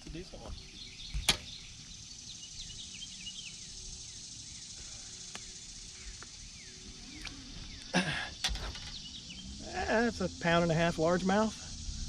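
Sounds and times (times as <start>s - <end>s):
bird chirping: 0.0s - 12.0s
low steady rumble: 0.1s - 12.0s.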